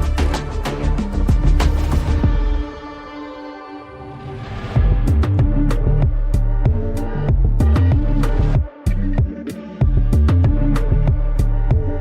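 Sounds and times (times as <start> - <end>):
electronic music with heavy bass: 0.0 - 2.8, 4.8 - 12.0.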